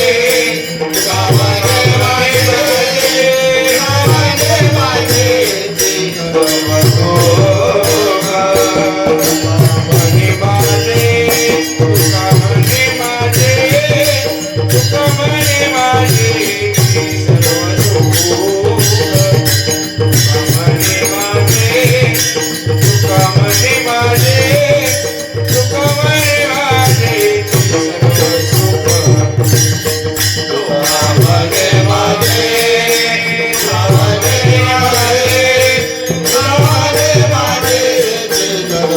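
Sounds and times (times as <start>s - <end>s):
melodic vocal line: 0.0s - 29.8s, 30.4s - 38.9s
metallic jingling percussion: 0.0s - 38.9s.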